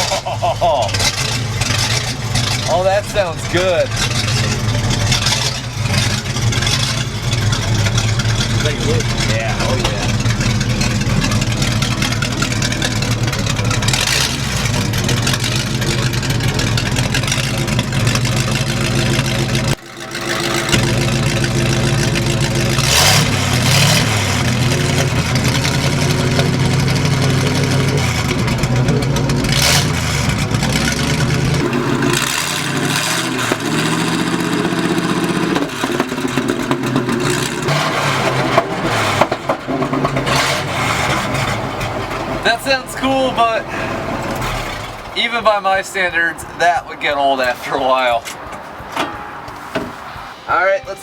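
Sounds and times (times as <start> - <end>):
open exhaust engine revving: 0.0 - 45.4.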